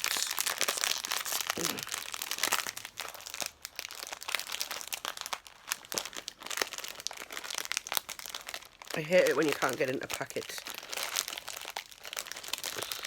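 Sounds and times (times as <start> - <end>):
plastic crisp packet crinkling: 0.0 - 13.0.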